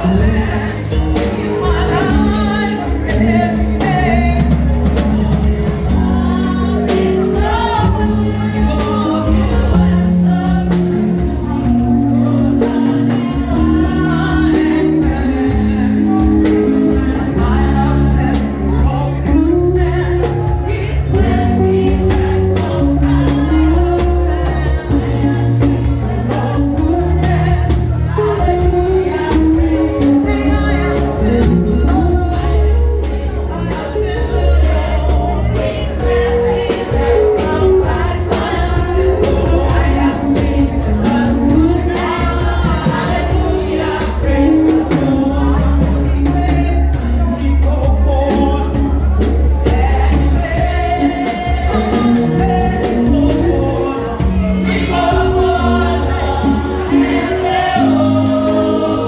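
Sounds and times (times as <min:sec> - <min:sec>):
drum kit beat: 0:00.0 - 0:59.0
keyboard: 0:00.0 - 0:59.0
women singing together: 0:00.0 - 0:59.0.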